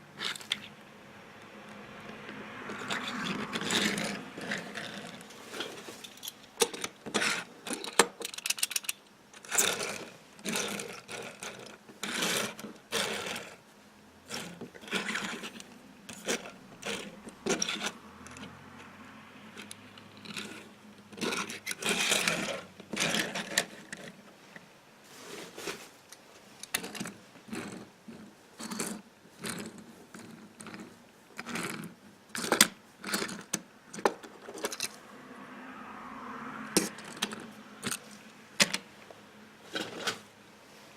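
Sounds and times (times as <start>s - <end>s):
toy cars clinking and scraping: 0.2s - 0.8s, 2.3s - 13.6s, 14.2s - 18.9s, 19.5s - 24.6s, 25.4s - 35.0s, 36.6s - 38.9s, 39.6s - 40.3s.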